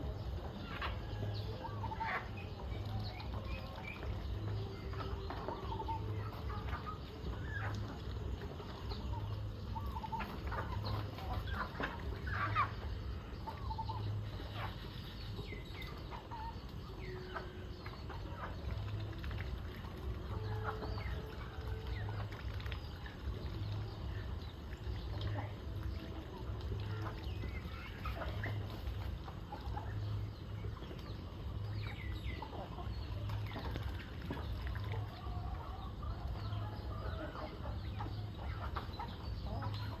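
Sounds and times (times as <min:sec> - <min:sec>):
chickens clucking: 0:00.0 - 0:40.0
low pulsing hum: 0:00.0 - 0:40.0.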